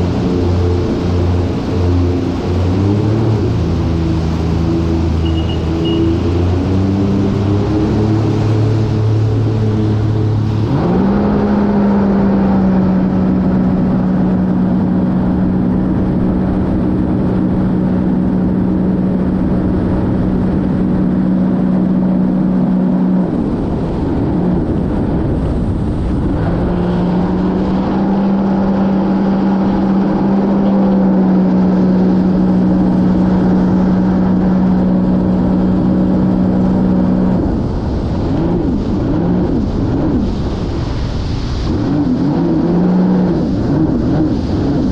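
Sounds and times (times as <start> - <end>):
jet ski engine running: 0.0 - 44.9
wind and water rushing: 0.0 - 44.9.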